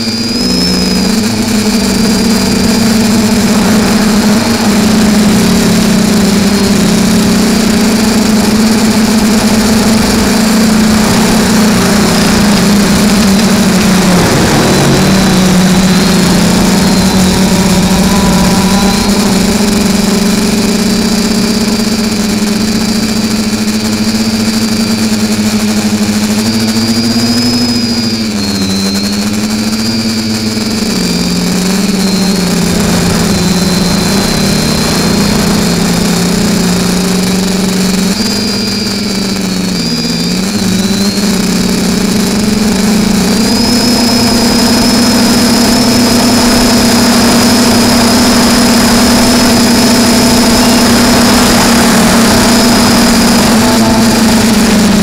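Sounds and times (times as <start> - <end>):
drone motors buzzing whine: 0.0 - 55.0
thin high propeller whistle: 0.0 - 55.0.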